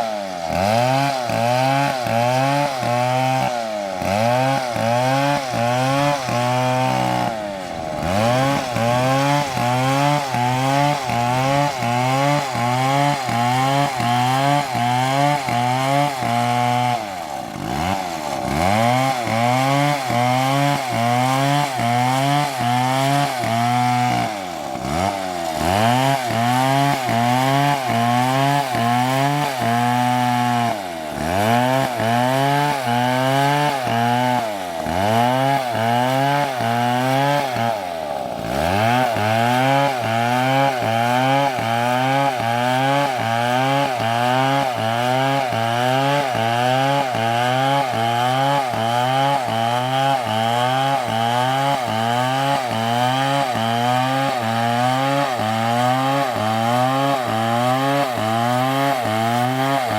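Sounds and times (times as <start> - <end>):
chainsaw cutting into tree: 0.0 - 59.9.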